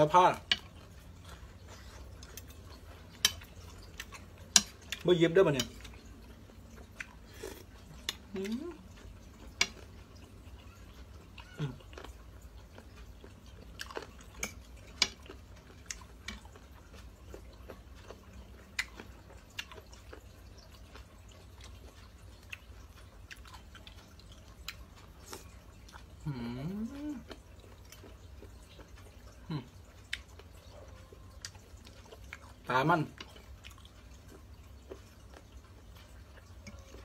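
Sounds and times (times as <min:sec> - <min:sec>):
soft chewing: 0:00.0 - 0:37.0.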